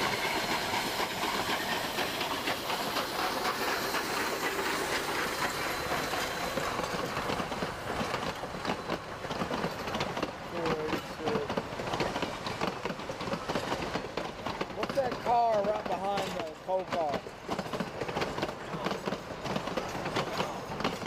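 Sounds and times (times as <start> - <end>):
steam locomotive hissing: 0.0 - 21.0
train wheels clicking over rail joints: 0.0 - 21.0.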